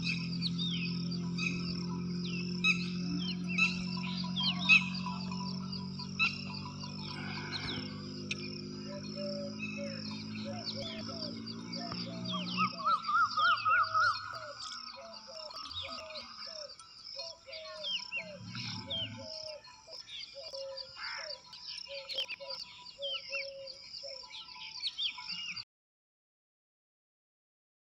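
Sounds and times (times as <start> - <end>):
birds chirping and calling: 0.0 - 25.6.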